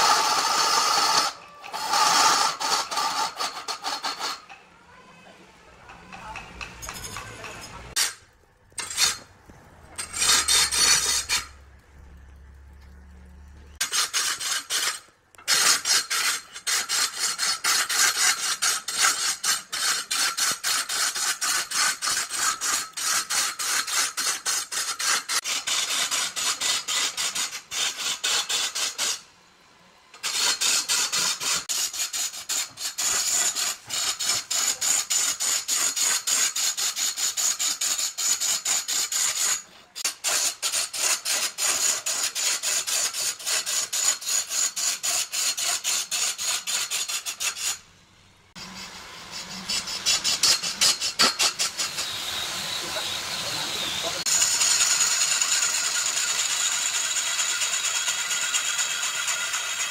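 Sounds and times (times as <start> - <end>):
hand tool rasping on wood: 0.0 - 4.5, 10.0 - 11.5, 13.8 - 29.2, 30.2 - 47.8, 48.6 - 59.9.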